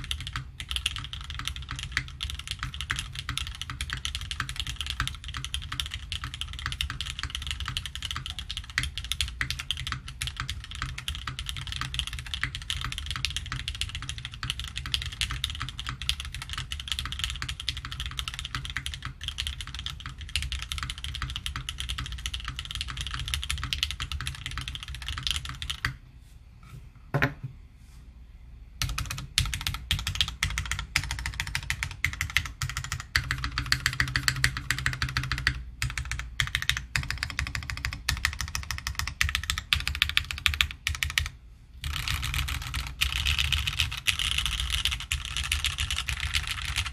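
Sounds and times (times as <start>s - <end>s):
mechanical keyboard typing: 0.0s - 26.0s, 28.8s - 46.9s.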